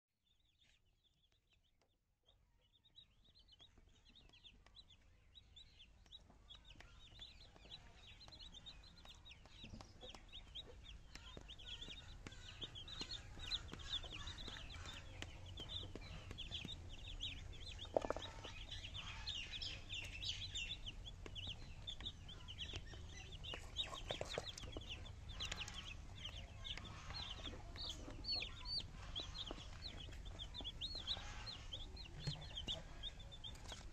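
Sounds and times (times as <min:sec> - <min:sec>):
baby chicks peeping: 0:00.3 - 0:33.9.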